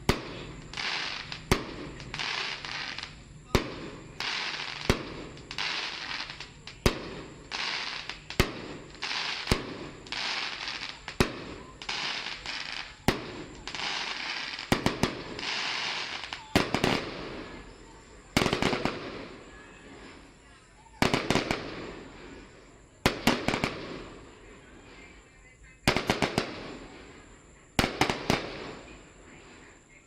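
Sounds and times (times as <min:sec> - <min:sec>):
hissing crackle: 0:00.0 - 0:30.0.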